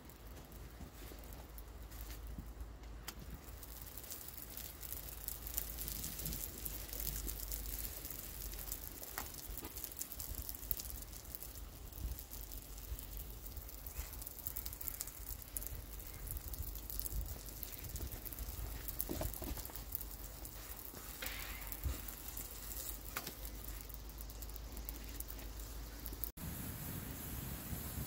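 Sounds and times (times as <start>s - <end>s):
charcoal crackling: 0.0s - 28.0s
egg sizzling in a pan: 0.0s - 28.0s.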